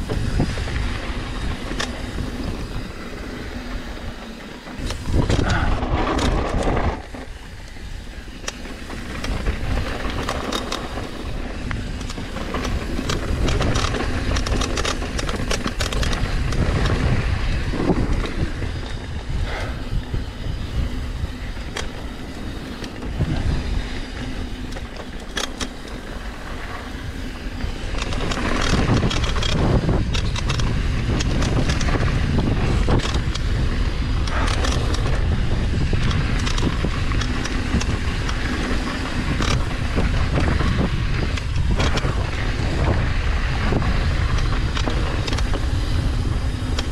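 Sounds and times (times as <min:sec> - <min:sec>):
bike knocking and rattling: 0:00.0 - 0:46.9
tyres rolling on loose dirt: 0:00.0 - 0:46.9
wind rushing over microphone: 0:00.0 - 0:46.9.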